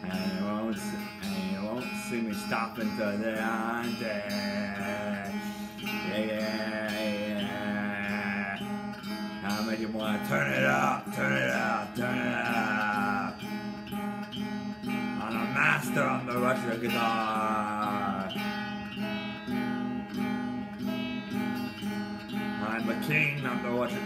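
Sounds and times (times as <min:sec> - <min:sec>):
man singing long wavering notes: 0:00.0 - 0:19.4, 0:22.3 - 0:24.0
electric guitar playing: 0:00.0 - 0:24.0.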